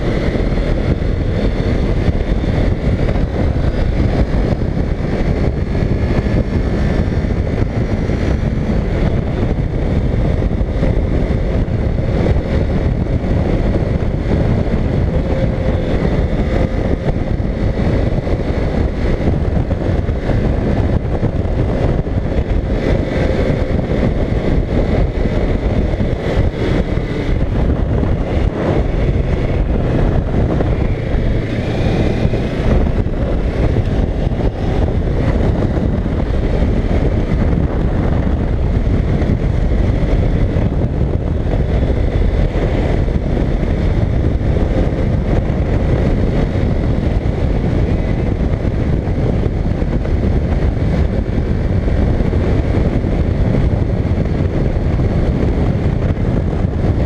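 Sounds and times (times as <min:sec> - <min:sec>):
motorcycle engine drone: 0:00.0 - 0:57.0
wind rushing over microphone: 0:00.0 - 0:57.0.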